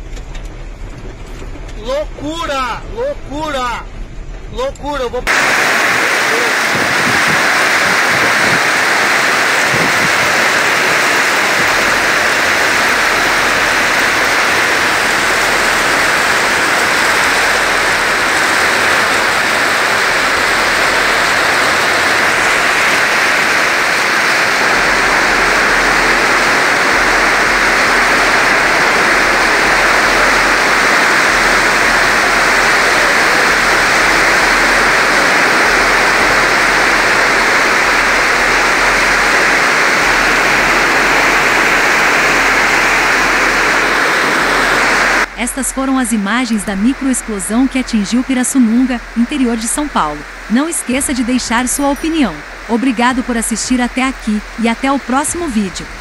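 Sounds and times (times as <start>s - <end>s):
heavy wind-driven rain: 0.0s - 56.0s.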